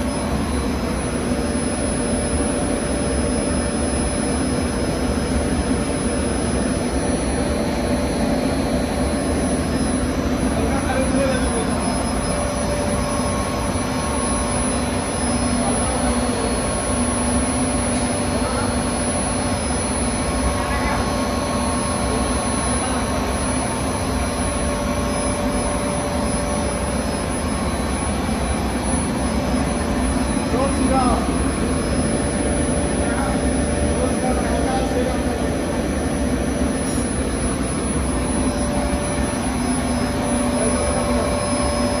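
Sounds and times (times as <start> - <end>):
loud steady machine drone: 0.0 - 42.0.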